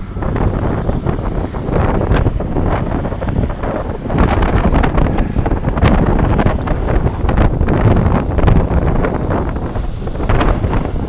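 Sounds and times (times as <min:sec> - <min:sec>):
truck engine: 0:00.0 - 0:11.0
wind buffeting microphone: 0:00.0 - 0:11.0.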